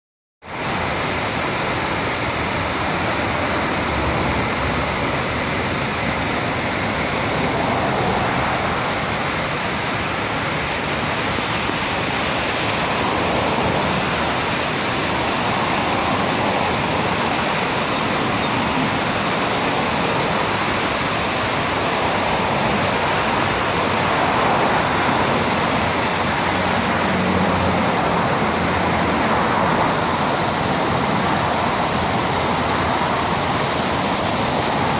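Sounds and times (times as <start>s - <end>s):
water rushing over a weir: 0.4s - 34.9s.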